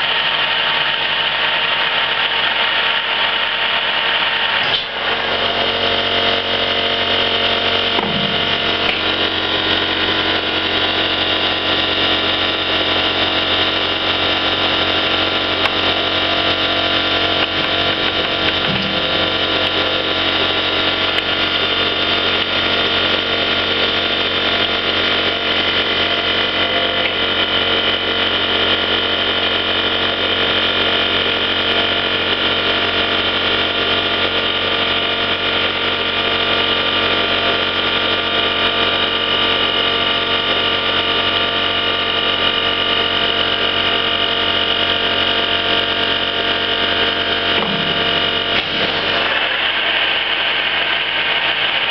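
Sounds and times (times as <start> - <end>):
lathe humming: 0.0 - 51.9.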